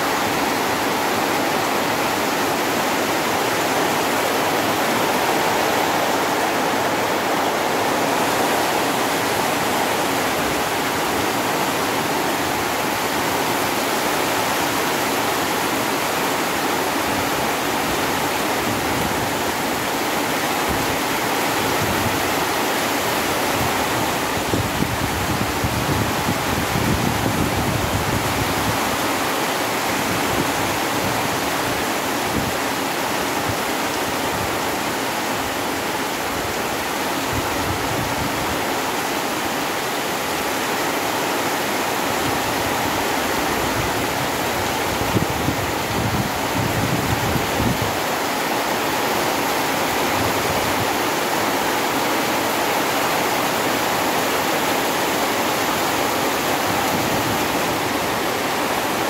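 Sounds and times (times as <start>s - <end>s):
heavy rain pouring on trees: 0.0s - 59.0s.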